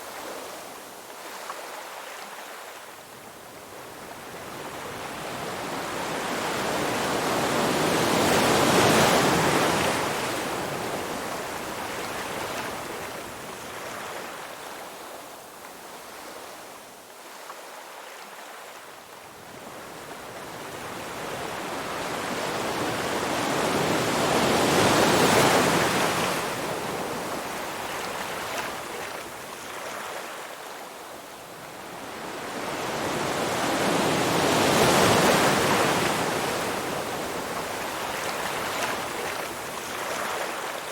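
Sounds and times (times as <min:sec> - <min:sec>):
ocean waves washing in and out: 0:00.0 - 0:40.9.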